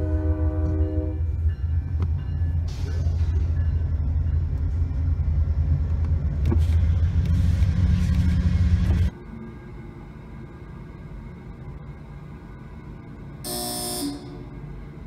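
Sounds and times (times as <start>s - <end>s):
passing train rumbling: 0.0s - 15.0s.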